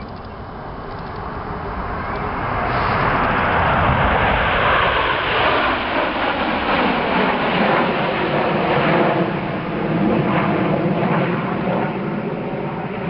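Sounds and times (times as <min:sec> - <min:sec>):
jets roaring overhead: 0:00.0 - 0:13.0.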